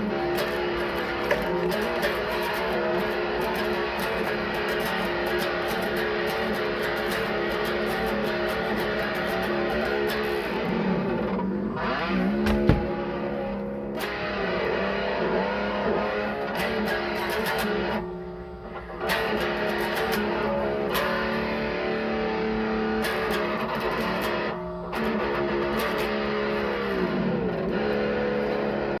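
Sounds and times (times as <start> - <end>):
guitar ringing notes with bends: 0.0 - 29.0.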